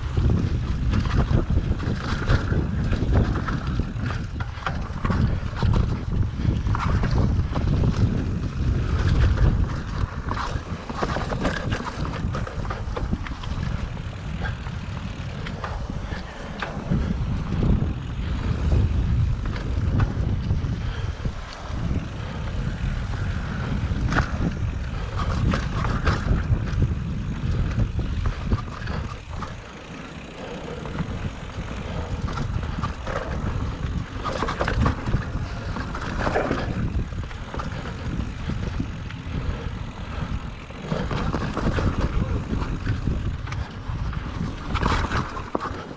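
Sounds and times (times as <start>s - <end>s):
bike knocking and rattling: 0.0s - 45.9s
wind rumble on microphone: 0.0s - 45.9s.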